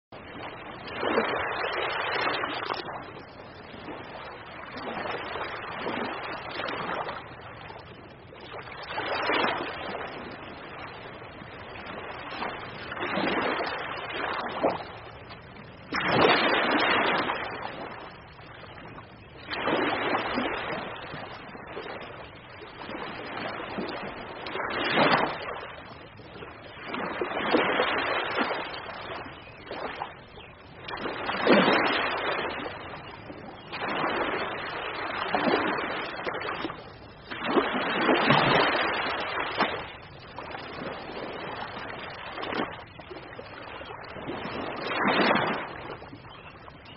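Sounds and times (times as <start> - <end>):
ocean waves breaking ashore: 0.2 - 46.2.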